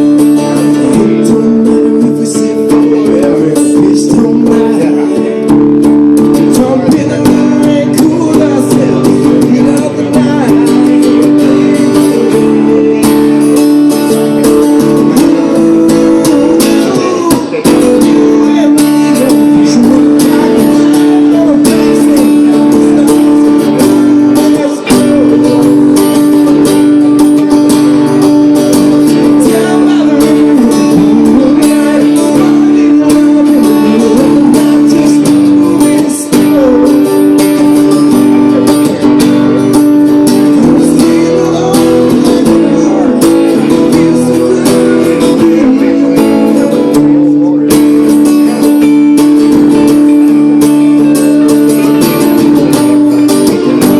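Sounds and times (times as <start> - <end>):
person singing: 0.0 - 53.9
strummed acoustic guitar: 0.0 - 53.9.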